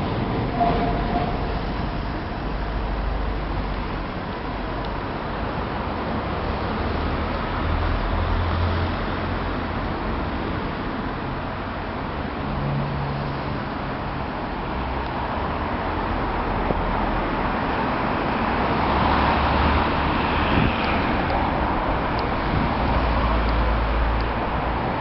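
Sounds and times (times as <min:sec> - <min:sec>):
tram rolling and motor noise: 0:00.0 - 0:25.0.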